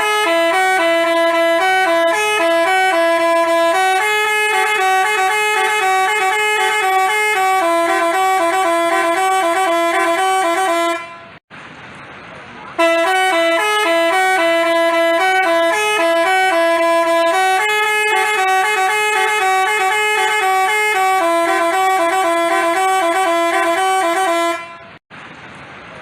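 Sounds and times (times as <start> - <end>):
multi-tone air horn melody: 0.0 - 11.4, 12.8 - 25.0.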